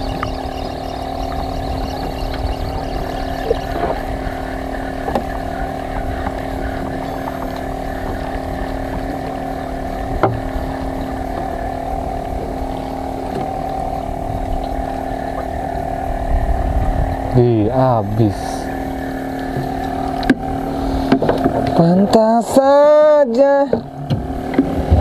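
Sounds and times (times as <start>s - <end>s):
boat diesel engine running: 0.0s - 25.0s.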